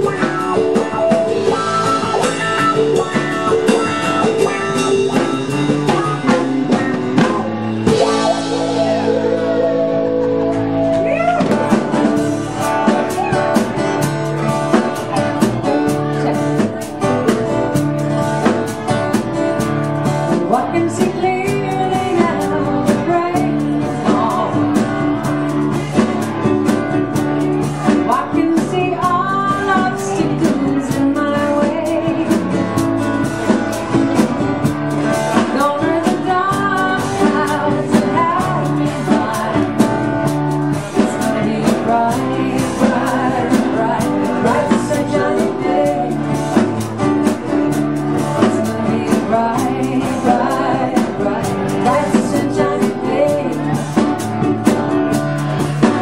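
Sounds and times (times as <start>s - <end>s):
woman singing lead: 0.0s - 14.1s, 20.3s - 26.4s, 27.4s - 33.6s, 35.1s - 56.0s
bass guitar: 0.0s - 56.0s
electric guitar: 0.0s - 56.0s
strummed acoustic guitar: 0.0s - 56.0s.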